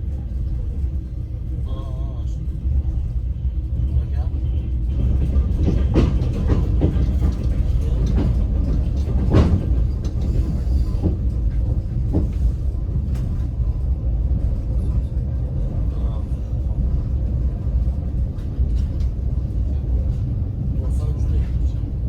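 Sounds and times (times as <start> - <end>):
train carriage rumbling: 0.0 - 22.0.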